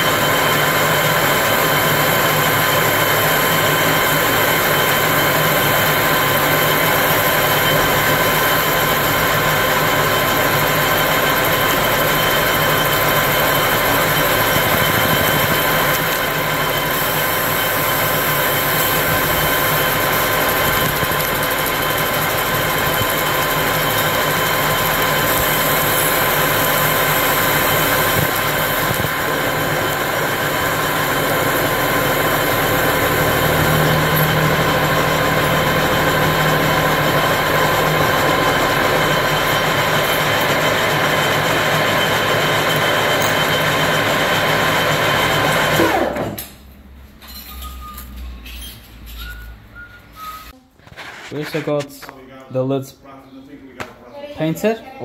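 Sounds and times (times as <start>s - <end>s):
metal lathe cutting plastic rod: 0.0s - 46.3s.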